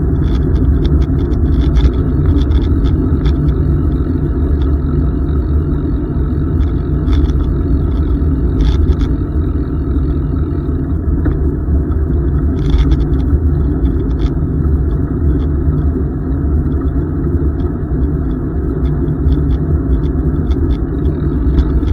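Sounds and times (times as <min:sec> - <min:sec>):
faint high ticks: 0:00.1 - 0:21.9.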